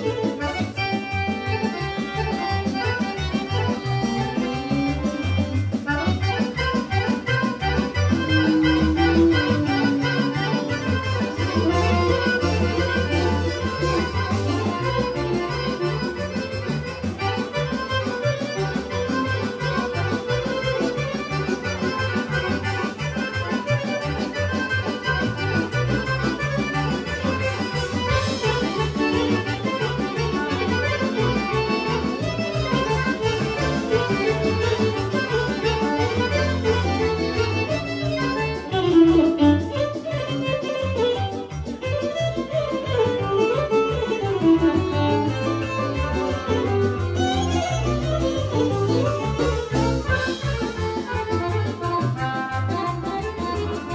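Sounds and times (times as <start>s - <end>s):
accordion-led folk band: 0.0s - 53.9s
violin melody: 0.0s - 53.9s.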